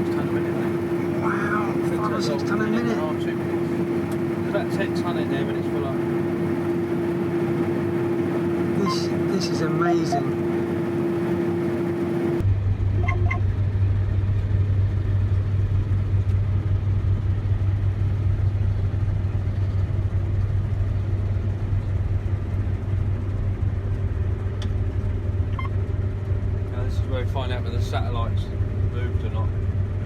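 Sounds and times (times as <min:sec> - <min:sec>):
combine harvester drone: 0:00.0 - 0:30.0.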